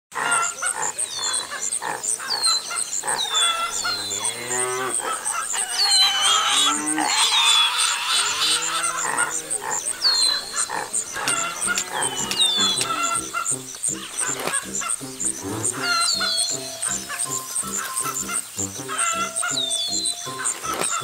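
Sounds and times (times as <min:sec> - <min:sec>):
small birds chirping: 0:00.1 - 0:21.0
cattle mooing: 0:03.0 - 0:21.0.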